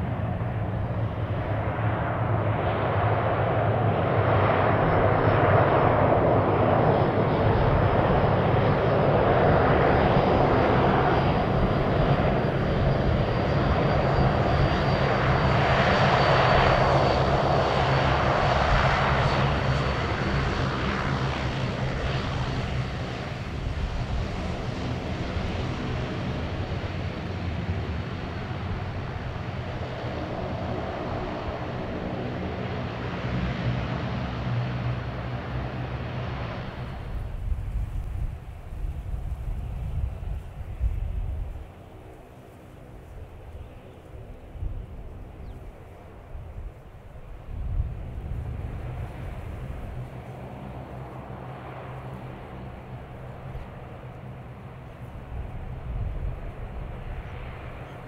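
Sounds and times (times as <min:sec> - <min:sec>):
propeller hum: 0:00.0 - 0:58.0.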